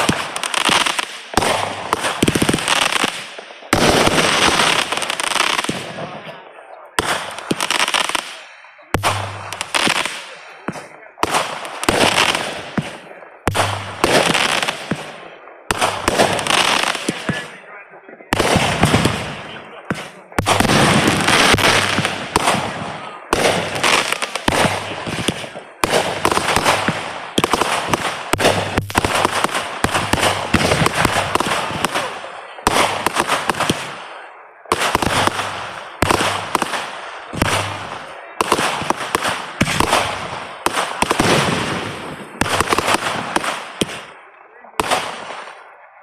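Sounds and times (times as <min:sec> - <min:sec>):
fireworks bangs: 0:00.0 - 0:45.8.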